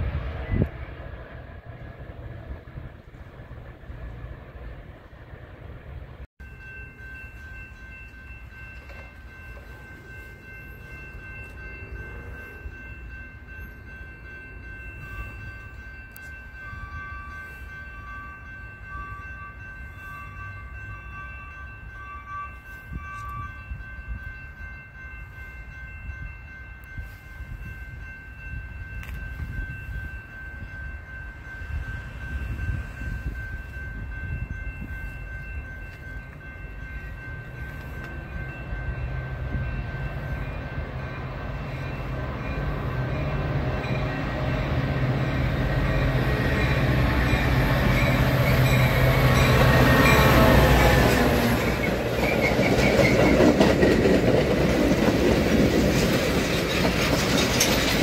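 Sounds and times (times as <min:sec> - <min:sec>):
crossing warning bells ringing: 0:00.0 - 0:58.0
train rumble: 0:00.0 - 0:58.0.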